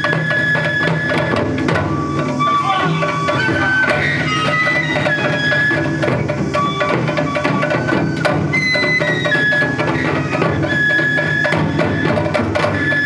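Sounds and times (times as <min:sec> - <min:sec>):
taiko drumming: 0:00.0 - 0:13.0
high melody of held notes: 0:00.1 - 0:12.3.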